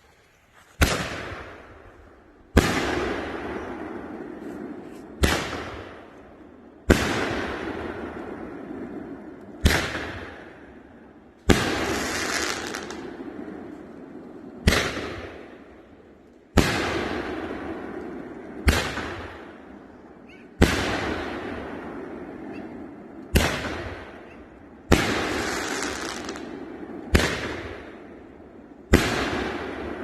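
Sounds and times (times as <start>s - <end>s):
firework shots banging and hissing: 0.0s - 1.9s, 2.5s - 30.0s.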